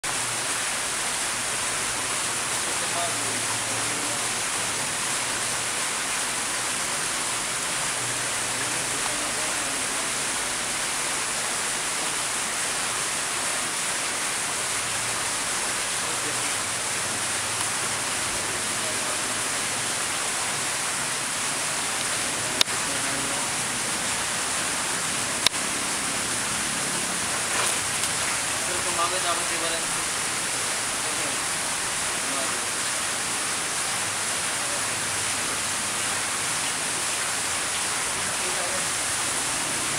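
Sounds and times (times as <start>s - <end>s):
water churning and splashing: 0.0s - 39.9s.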